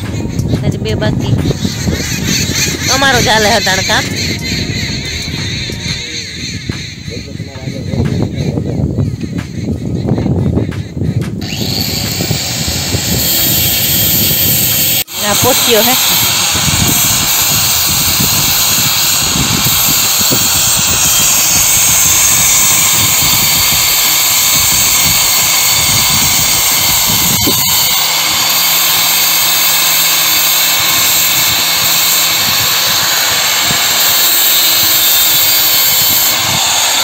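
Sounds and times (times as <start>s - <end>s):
power tool grinding stone: 0.0s - 7.1s, 11.4s - 37.0s.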